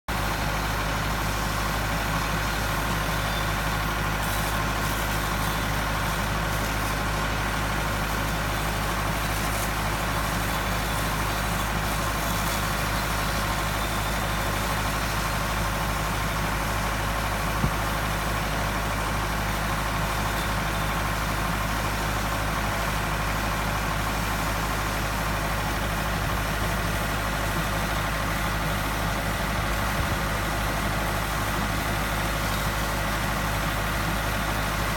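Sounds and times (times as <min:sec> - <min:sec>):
water pump droning: 0:00.1 - 0:34.9.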